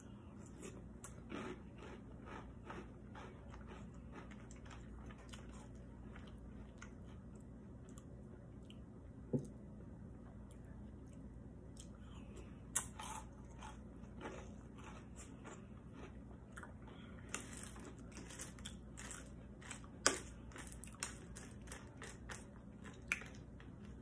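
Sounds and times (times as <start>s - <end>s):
chewing and crunching cereal: 0.0s - 8.9s, 10.2s - 24.0s.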